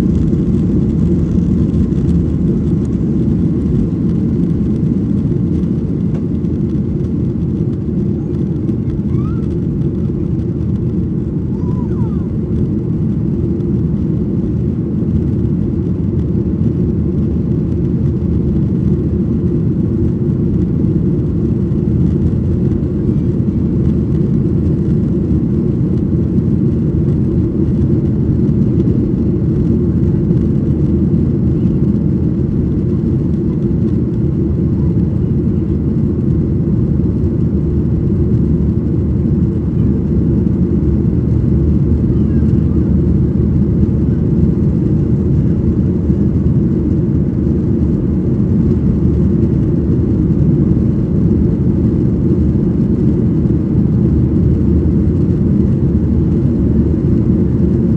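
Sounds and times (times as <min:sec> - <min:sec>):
airplane cabin engine rumble: 0:00.0 - 0:57.9.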